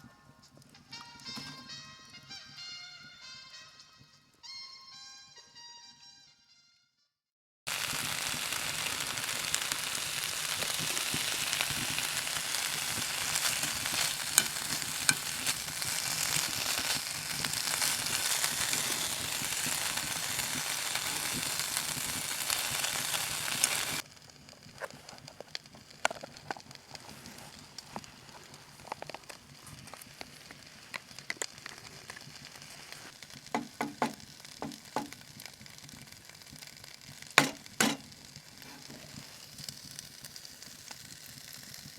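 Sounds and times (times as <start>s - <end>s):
food sizzling in a pan: 7.7s - 41.9s.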